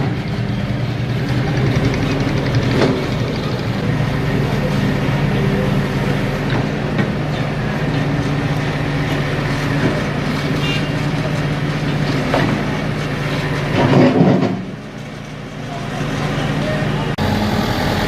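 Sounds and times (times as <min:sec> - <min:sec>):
train engine hum: 0:00.0 - 0:13.8, 0:14.6 - 0:18.0
train rolling noise: 0:00.0 - 0:18.0.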